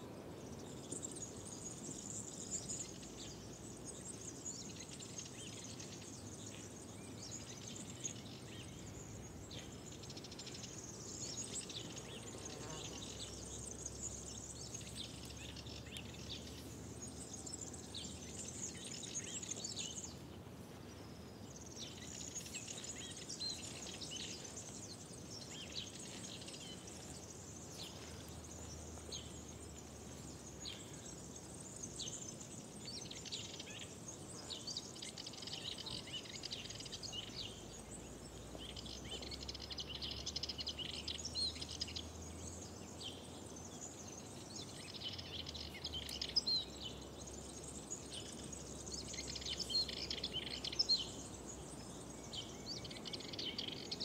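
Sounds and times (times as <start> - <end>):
birds chirping and trilling: 0.4 - 54.0.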